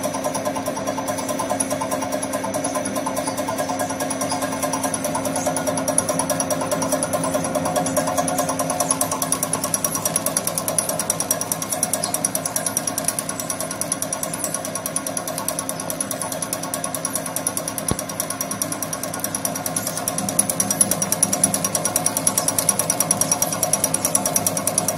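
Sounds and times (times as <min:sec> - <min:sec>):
fast even rattle: 0:00.0 - 0:24.9
steady machine hum: 0:00.0 - 0:24.9.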